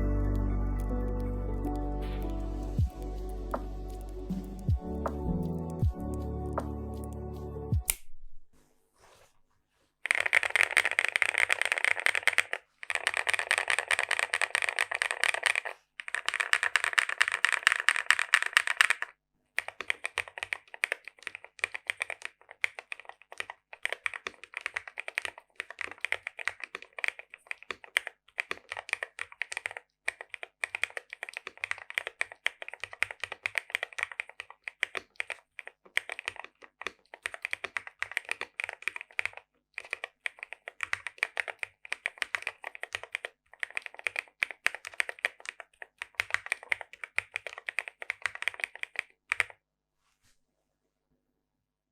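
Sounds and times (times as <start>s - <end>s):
mechanical keyboard typing: 0.0s - 7.2s, 10.1s - 49.6s.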